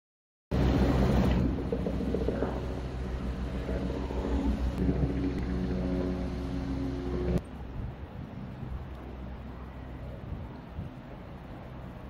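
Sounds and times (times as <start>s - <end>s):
boat engine humming: 0.5s - 12.0s
wind and water noise: 0.5s - 12.0s.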